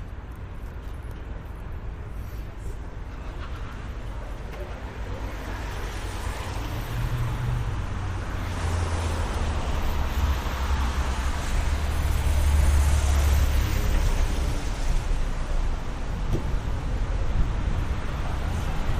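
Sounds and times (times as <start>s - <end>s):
low traffic rumble: 0.0s - 18.9s.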